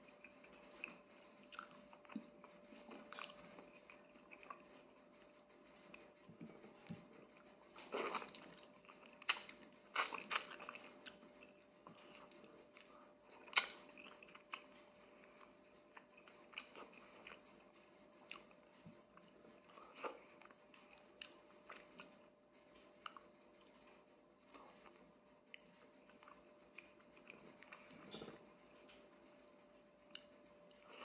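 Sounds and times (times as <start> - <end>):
person chewing and crunching: 0.0 - 5.0, 7.8 - 22.3, 22.9 - 28.4.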